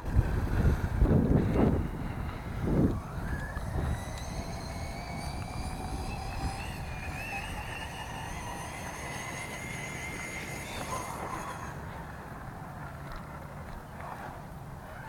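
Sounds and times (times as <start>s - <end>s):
electric motor whining: 0.0s - 12.2s
wind rumble on microphone: 0.0s - 15.0s.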